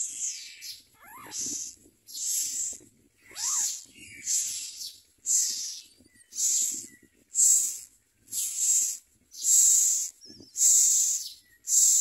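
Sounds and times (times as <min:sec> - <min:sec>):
nestlings hissing begging calls: 0:01.2 - 0:12.0.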